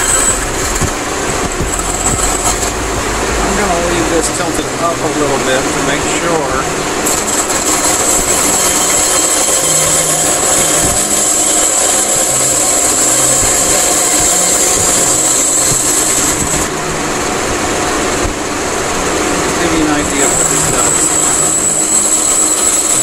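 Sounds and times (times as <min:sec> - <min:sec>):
band saw cutting wood: 0:00.0 - 0:18.4, 0:19.1 - 0:23.0.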